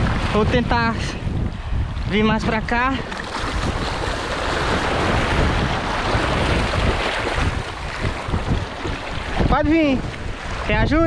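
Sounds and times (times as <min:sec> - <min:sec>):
wind rumbling on microphone: 0:00.0 - 0:11.0
surf washing over rock: 0:02.0 - 0:11.0.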